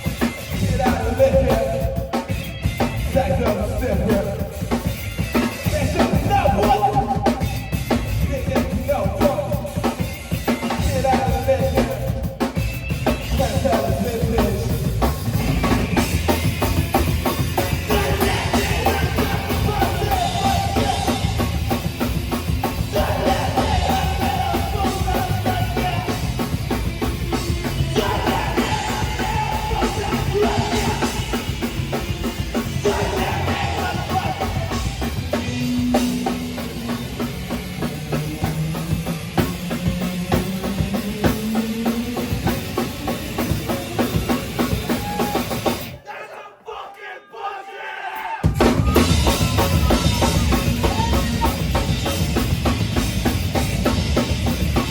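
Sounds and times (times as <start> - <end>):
live rock band playing: 0.0 - 46.0, 48.5 - 54.9.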